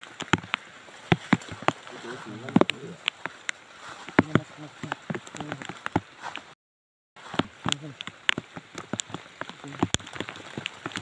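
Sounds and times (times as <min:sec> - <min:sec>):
water drops tapping on a shelter: 0:00.0 - 0:06.6, 0:07.2 - 0:11.0.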